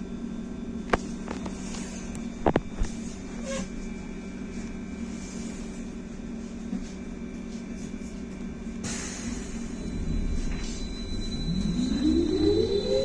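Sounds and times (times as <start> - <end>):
trolleybus electric hum: 0.0 - 13.0.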